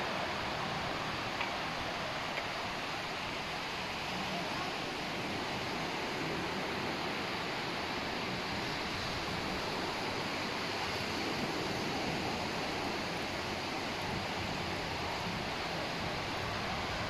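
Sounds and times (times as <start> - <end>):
sea surf on a beach: 0.0 - 17.0.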